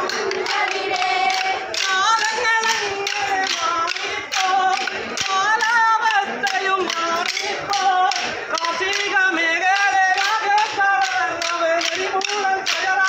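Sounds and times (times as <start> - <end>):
group singing: 0.0 - 13.0
wooden sticks clacking: 0.0 - 13.0.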